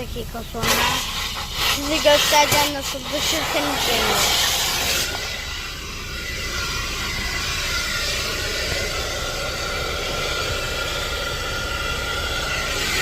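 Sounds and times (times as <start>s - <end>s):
faint high whine: 0.0s - 13.0s
vacuum hose rushing air: 0.0s - 13.0s.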